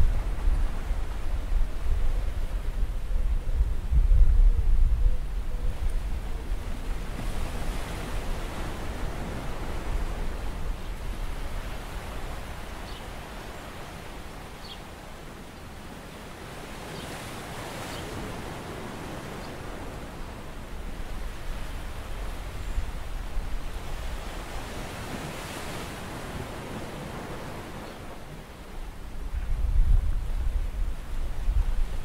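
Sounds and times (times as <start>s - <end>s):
surf rushing at the shore: 5.3s - 32.0s.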